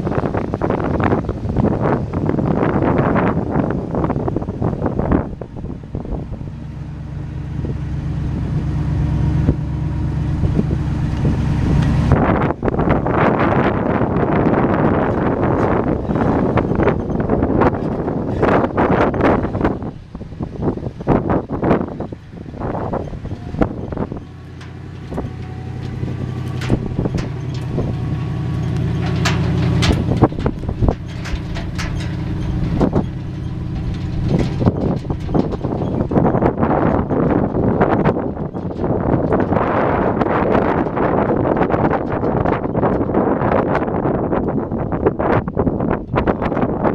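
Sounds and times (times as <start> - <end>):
truck engine idling: 0.0 - 46.9
wind buffeting microphone: 0.0 - 46.9
knocks and rattles: 4.8 - 46.9.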